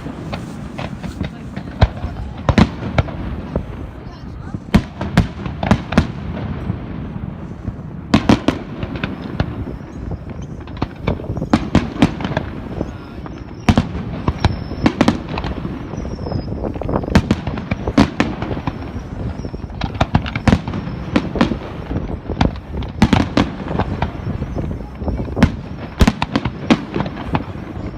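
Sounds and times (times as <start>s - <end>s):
echoing booms: 0.0s - 27.9s
fireworks bangs and cracks: 0.0s - 27.9s.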